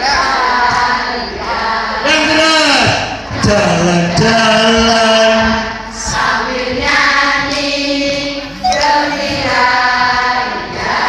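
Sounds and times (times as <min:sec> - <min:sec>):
group singing in unison: 0:00.0 - 0:11.0.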